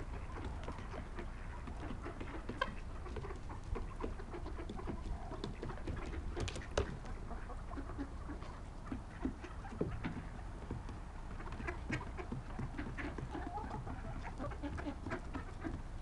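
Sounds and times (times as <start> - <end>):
birds clucking and calling: 0.0 - 16.0
pecking taps and rustles: 0.0 - 16.0.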